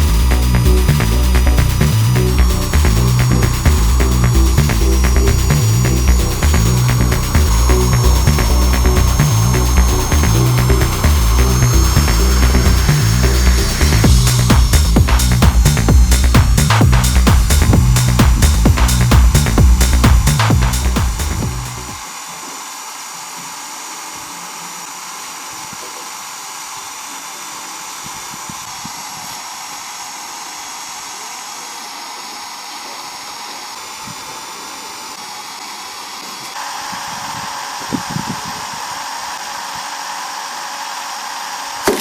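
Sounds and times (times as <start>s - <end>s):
electric drill motor whine: 0.0s - 42.0s.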